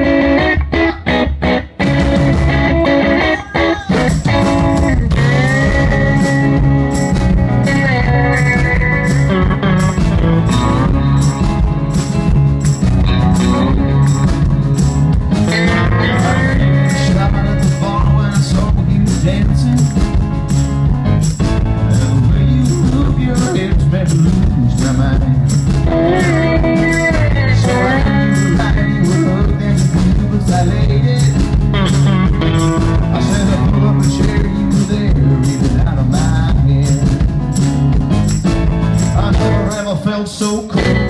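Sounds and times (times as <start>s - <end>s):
lead guitar bending notes: 0.0s - 39.8s
rock band playing: 0.0s - 41.0s.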